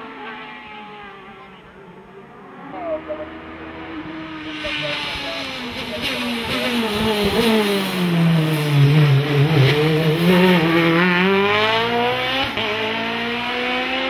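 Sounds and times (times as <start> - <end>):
race car engine: 0.0 - 14.0.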